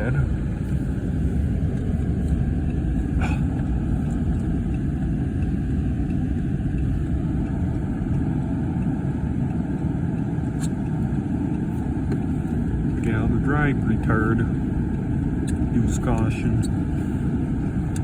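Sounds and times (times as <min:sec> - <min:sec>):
car engine and tyres running: 0:00.0 - 0:18.0.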